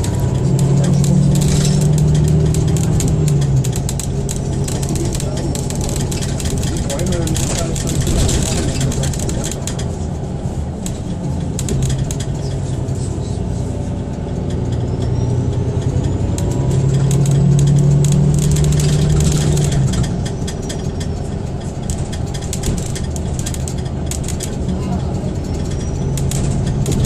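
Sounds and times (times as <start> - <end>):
clicks and rattles in cabin: 0.0 - 13.0, 14.0 - 27.0
bus engine hum: 0.0 - 27.0
road noise: 0.0 - 27.0.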